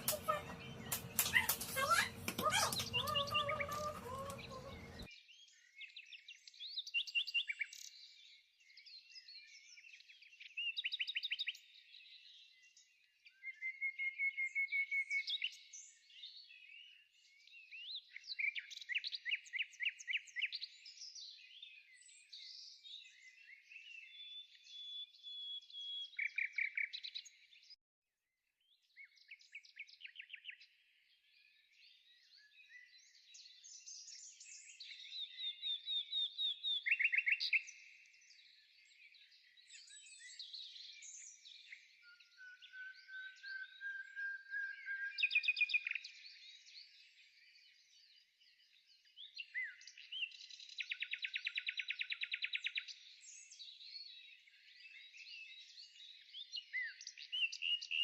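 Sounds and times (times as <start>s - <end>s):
songbirds chirping and trilling: 0.0s - 27.8s, 28.8s - 58.0s.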